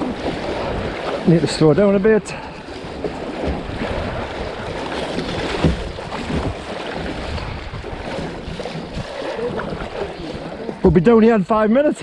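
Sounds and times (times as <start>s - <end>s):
wind buffeting microphone: 0.0s - 11.2s
paddle splashes: 0.0s - 12.0s
rushing river water: 0.0s - 12.0s.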